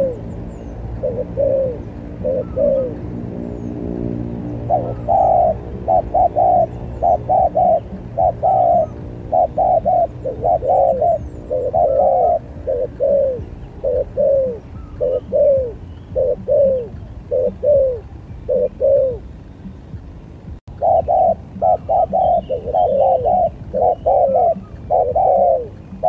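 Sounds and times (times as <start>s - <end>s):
doves cooing: 0.0s - 20.1s, 20.7s - 26.0s.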